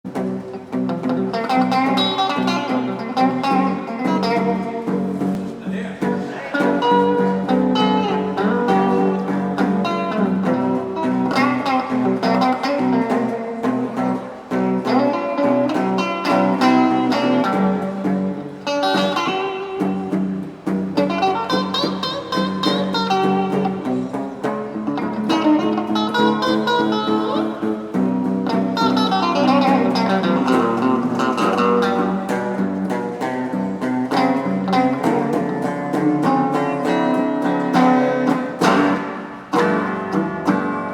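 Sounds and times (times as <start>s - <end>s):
guitar playing: 0.0s - 40.9s.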